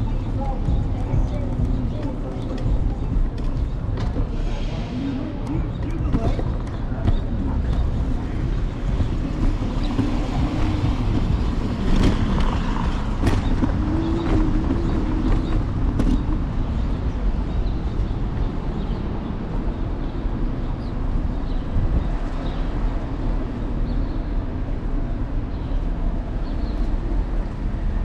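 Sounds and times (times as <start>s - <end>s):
road and wind rumble: 0.0s - 28.0s.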